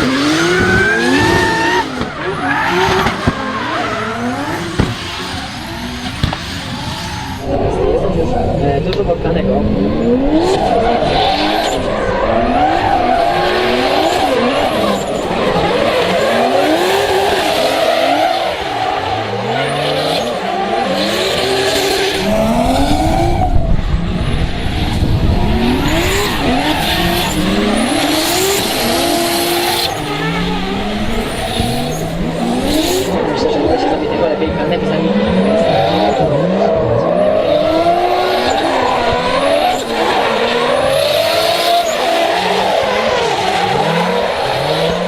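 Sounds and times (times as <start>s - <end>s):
tyres squealing and skidding: 0.0s - 7.8s, 10.0s - 45.0s
car engine revving hard: 0.0s - 8.6s, 9.5s - 45.0s.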